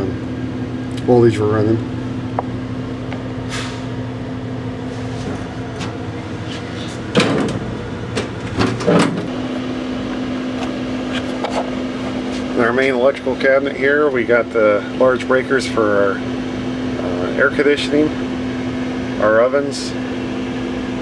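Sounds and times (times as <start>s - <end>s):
air-conditioning hum: 0.0s - 21.0s.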